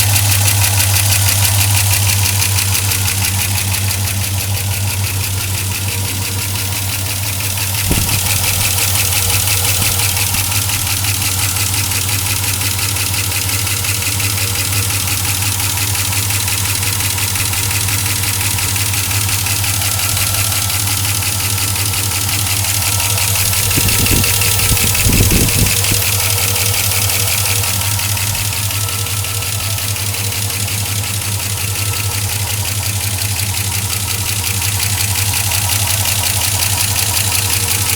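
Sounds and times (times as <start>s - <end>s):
engine idling with ticking: 0.0s - 37.9s.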